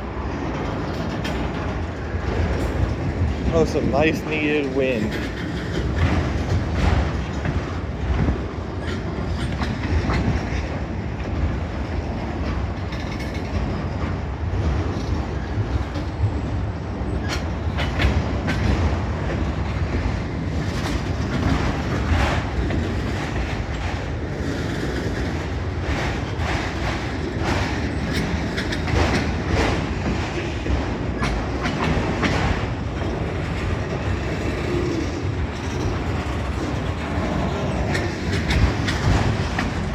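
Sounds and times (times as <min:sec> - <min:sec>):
train wheels clickety-clack: 0:00.0 - 0:39.9
wind rumbling on microphone: 0:00.0 - 0:39.9.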